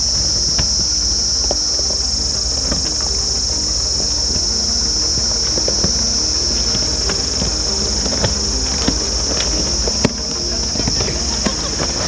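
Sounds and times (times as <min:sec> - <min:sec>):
car engine rumbling: 0:00.0 - 0:12.0
stones crunching under tyres: 0:00.0 - 0:12.0.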